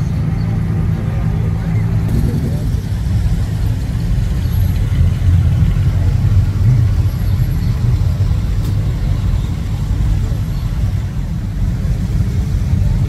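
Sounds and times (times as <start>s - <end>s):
car engines driving slowly past: 0.0s - 13.0s.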